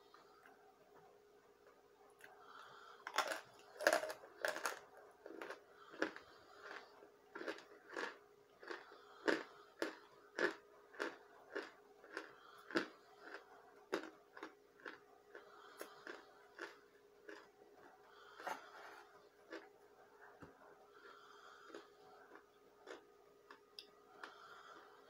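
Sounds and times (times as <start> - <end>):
person chewing crunchily: 2.2 - 19.7, 20.5 - 25.0.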